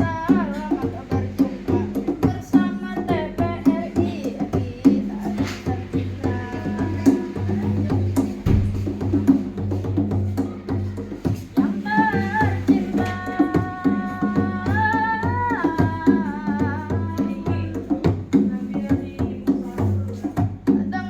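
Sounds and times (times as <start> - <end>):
drums and percussion: 0.0 - 21.0.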